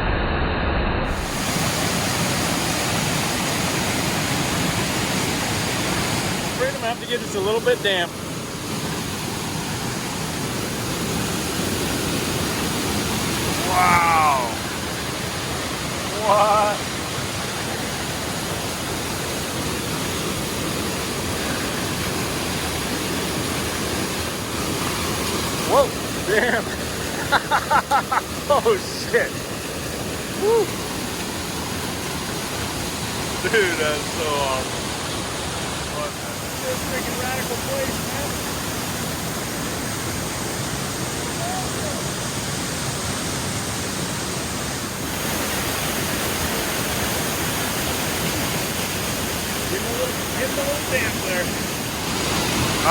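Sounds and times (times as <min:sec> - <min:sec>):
waterfall rushing: 0:01.0 - 0:52.9.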